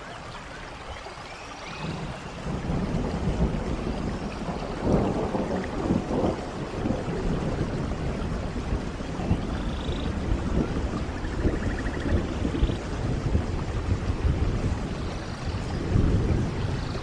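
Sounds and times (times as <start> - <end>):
rain falling: 0.0 - 17.0
rolling rumble of thunder: 1.6 - 17.0.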